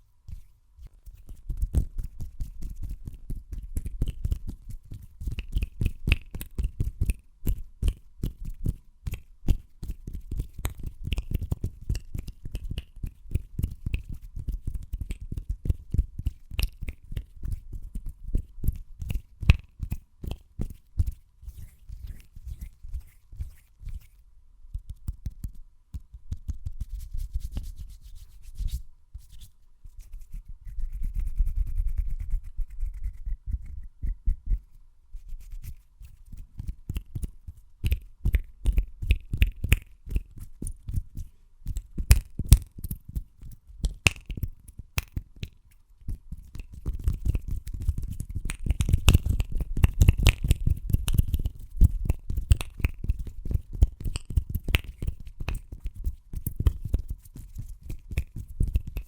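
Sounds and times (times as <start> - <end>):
hands rubbing and tapping microphone: 0.0 - 59.0.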